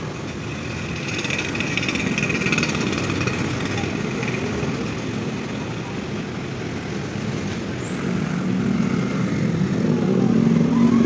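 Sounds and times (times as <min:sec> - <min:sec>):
motorbike and scooter traffic: 0:00.0 - 0:11.0.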